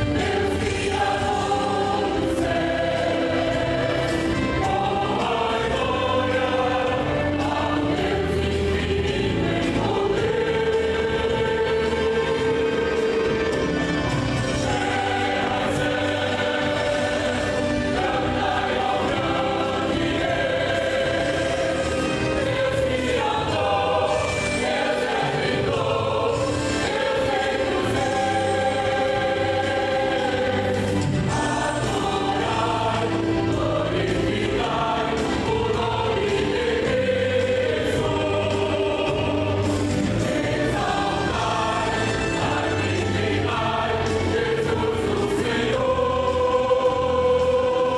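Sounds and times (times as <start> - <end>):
choir singing gospel song: 0.0 - 47.9
instrumental accompaniment: 0.0 - 47.9.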